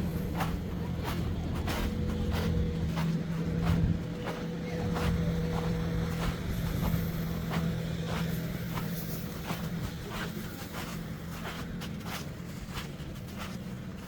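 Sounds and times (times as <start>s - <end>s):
footsteps walking: 0.0s - 14.0s
vehicle engine hum: 0.0s - 14.0s.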